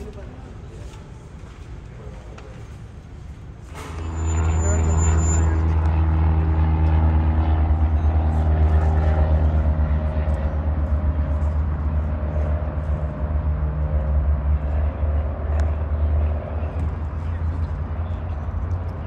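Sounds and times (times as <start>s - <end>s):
engine droning: 1.2s - 19.0s.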